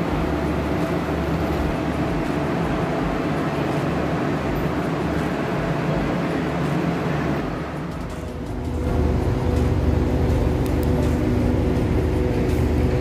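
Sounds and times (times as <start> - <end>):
trains rumbling and humming: 0.0 - 13.0.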